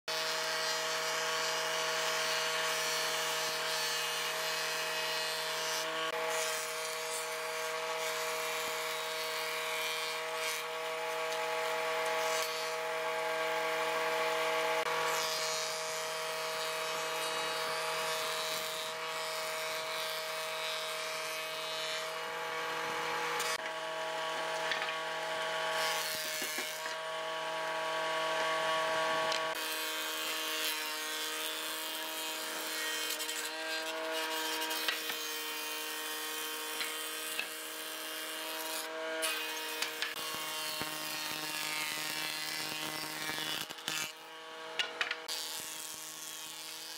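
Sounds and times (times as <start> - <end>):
wood being planed: 0.1 - 46.9.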